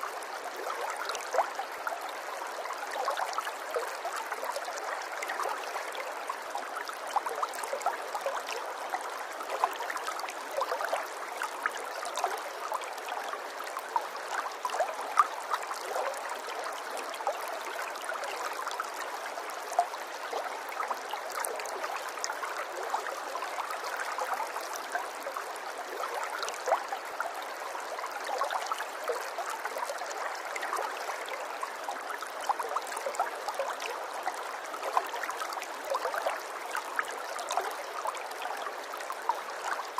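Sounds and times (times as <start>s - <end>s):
running water babbling: 0.0s - 39.9s.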